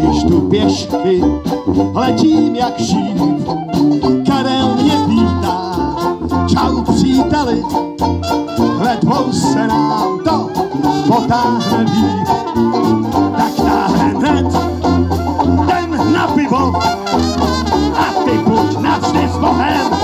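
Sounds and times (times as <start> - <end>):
jazz band playing live: 0.0 - 20.0.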